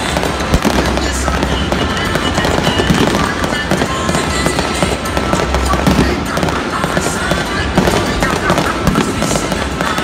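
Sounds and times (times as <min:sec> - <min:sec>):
fireworks crackling and popping: 0:00.0 - 0:10.0
theme music: 0:00.0 - 0:10.0.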